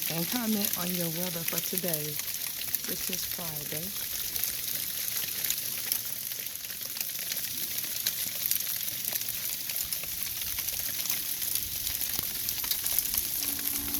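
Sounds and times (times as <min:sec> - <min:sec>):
rain snow and ice pellets falling: 0:00.0 - 0:13.9.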